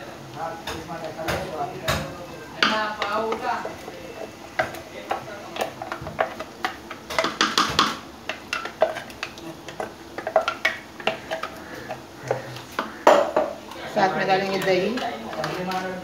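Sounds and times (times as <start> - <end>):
wooden spoon knocking on pot: 0.6 - 13.6.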